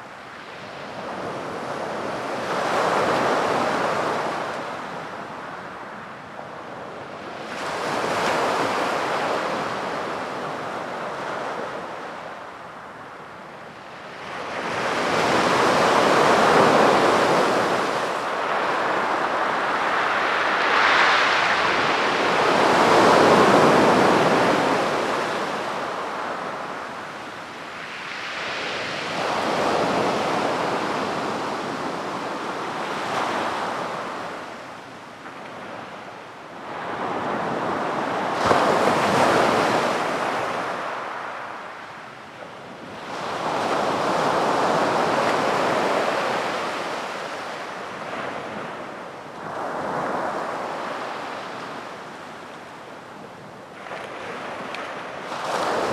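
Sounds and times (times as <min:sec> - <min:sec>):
sea waves breaking on a beach: 0:00.0 - 0:55.9.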